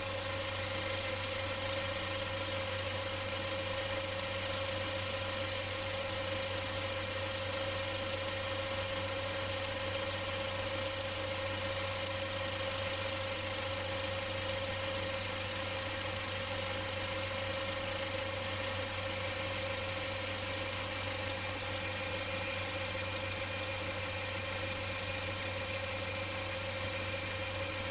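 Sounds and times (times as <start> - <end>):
fast high-pitched engine ticking: 0.0 - 27.9.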